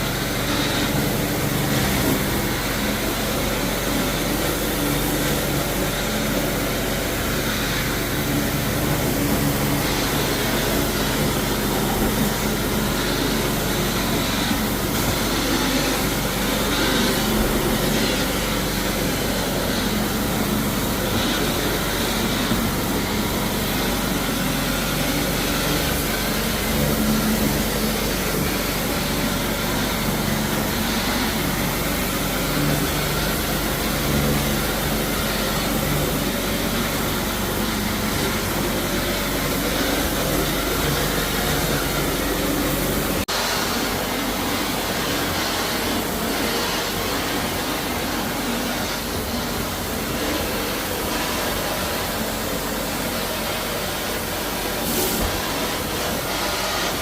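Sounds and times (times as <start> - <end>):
floor-cleaning machine humming: 0.0 - 57.0.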